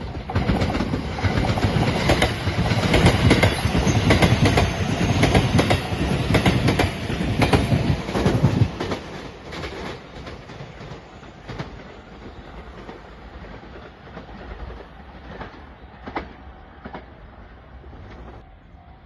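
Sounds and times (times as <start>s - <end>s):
wheels clacking over rail joints: 0.0s - 17.2s
train rumbling away: 0.0s - 19.0s.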